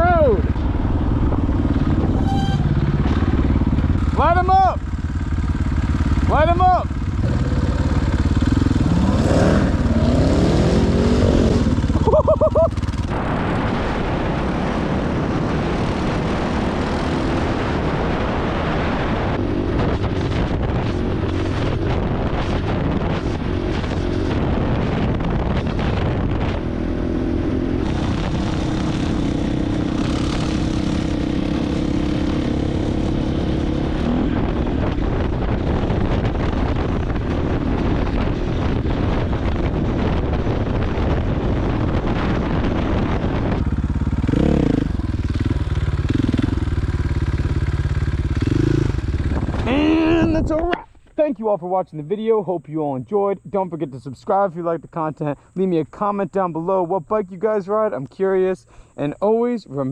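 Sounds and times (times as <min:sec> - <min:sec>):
dirt bike engine running: 0:00.0 - 0:51.2
wind on microphone: 0:00.0 - 0:51.3.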